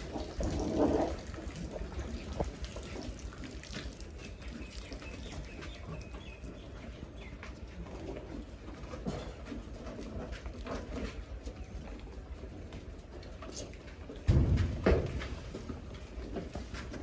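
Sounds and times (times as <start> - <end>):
goats rustling fodder: 0.0 - 17.0.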